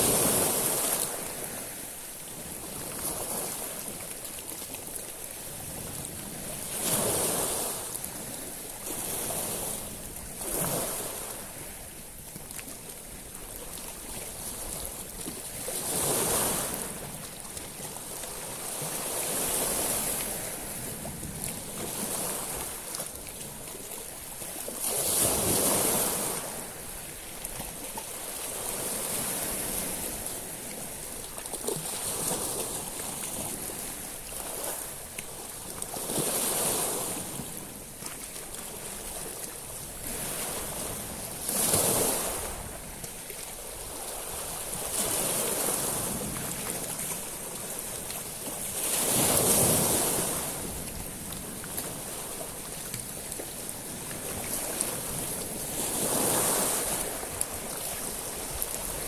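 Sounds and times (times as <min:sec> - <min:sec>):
waves breaking on pebbles: 0:00.0 - 0:12.0, 0:13.8 - 0:59.0.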